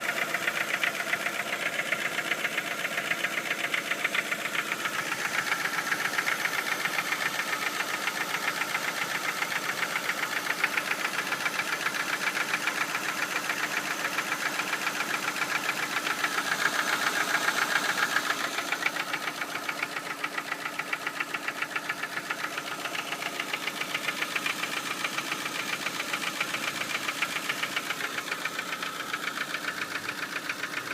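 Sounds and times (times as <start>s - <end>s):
car engine running: 0.0s - 30.9s
rhythmic engine knock: 0.0s - 30.9s.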